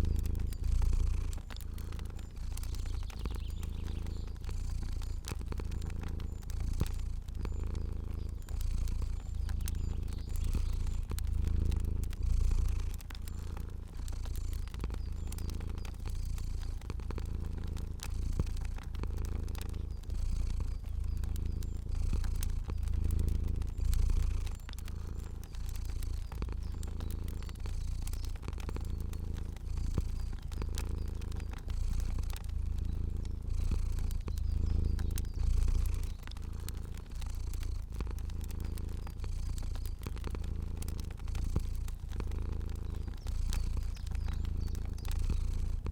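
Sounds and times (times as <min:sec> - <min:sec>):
cat purring: 0:00.0 - 0:45.9
fire crackling and popping: 0:00.0 - 0:45.9.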